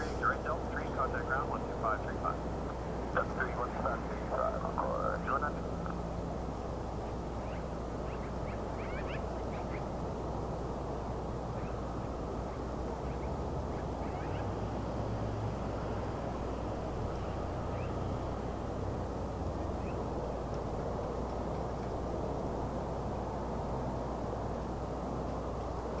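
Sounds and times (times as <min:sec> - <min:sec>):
distant jet engine rumble: 0:00.0 - 0:26.0.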